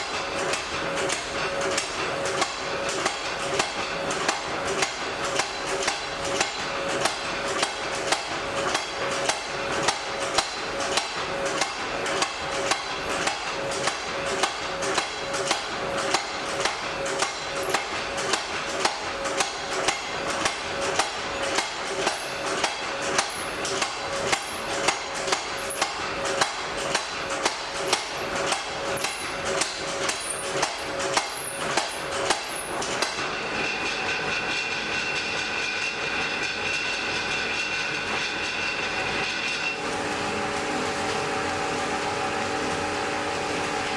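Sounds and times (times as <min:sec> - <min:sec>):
hammer striking metal on anvil: 0:00.5 - 0:39.6.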